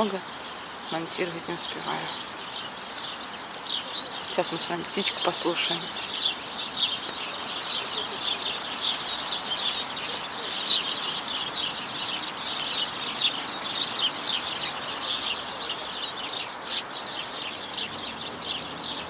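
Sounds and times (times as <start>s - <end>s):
city noise hum: 0.0s - 19.0s
flock of birds chirping: 0.0s - 19.0s.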